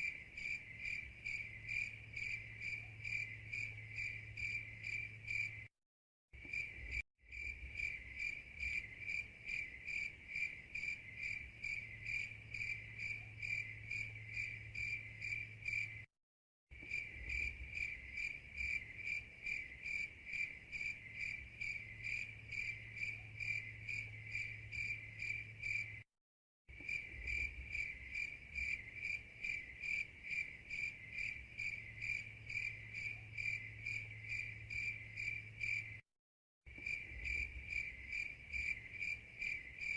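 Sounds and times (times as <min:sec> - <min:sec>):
crickets chirping: 0:00.0 - 0:05.7, 0:06.4 - 0:16.1, 0:16.8 - 0:26.1, 0:26.7 - 0:36.0, 0:36.7 - 0:39.9.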